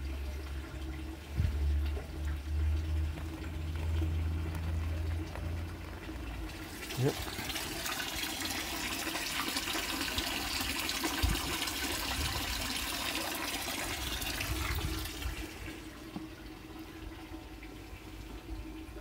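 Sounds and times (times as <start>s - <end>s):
water pouring into plastic tank: 0.0s - 19.0s.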